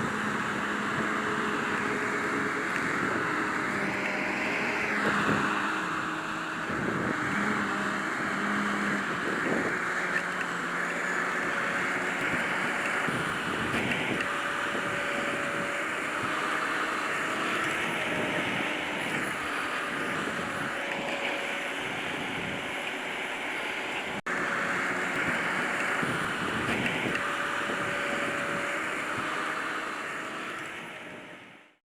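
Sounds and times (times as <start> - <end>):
harvester machinery running: 0.0 - 31.8.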